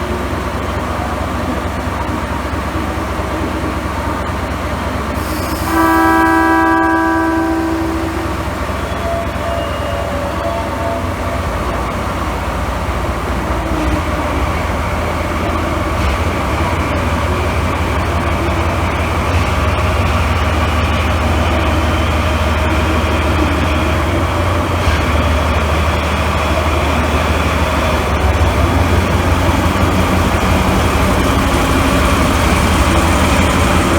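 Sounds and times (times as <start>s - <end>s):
locomotive engine droning: 0.0s - 33.9s.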